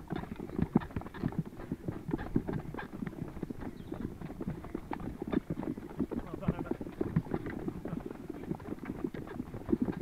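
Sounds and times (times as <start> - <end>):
footsteps hurrying on hard path: 0.0 - 10.0.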